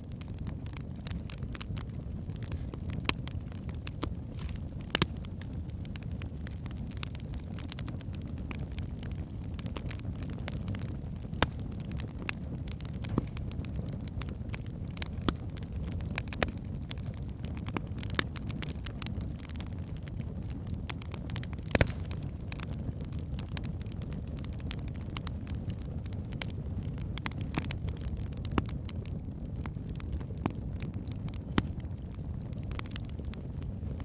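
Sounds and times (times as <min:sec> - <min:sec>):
fire crackling and popping: 0:00.0 - 0:34.0
rumble of fire flames: 0:00.0 - 0:34.0.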